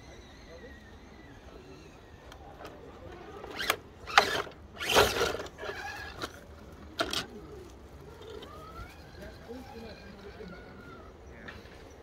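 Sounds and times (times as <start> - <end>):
rc car motor and gears rasping: 0.0 - 12.0.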